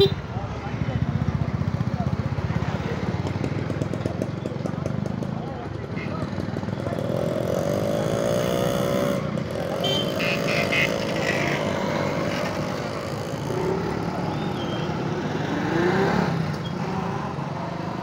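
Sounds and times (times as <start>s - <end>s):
motorcycles passing: 0.0s - 18.0s.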